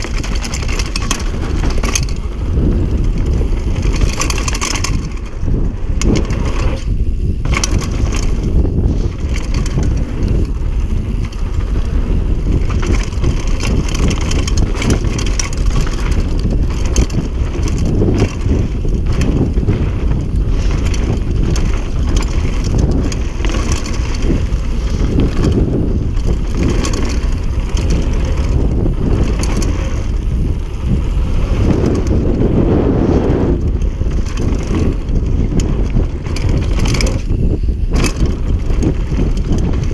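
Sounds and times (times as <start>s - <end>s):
bike rattling and clicking: 0.0s - 39.9s
bike tyres crunching on gravel: 0.0s - 39.9s.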